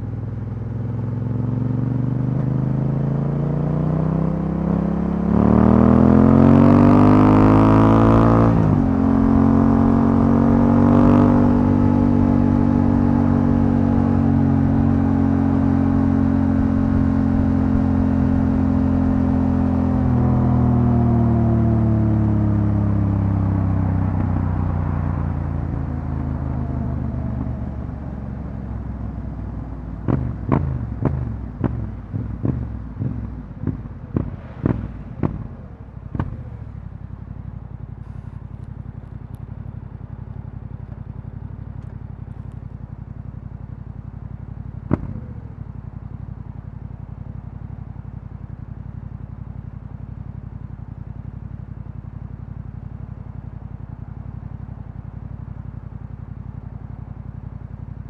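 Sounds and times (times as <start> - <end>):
motorcycle engine running and revving: 0.0 - 58.0.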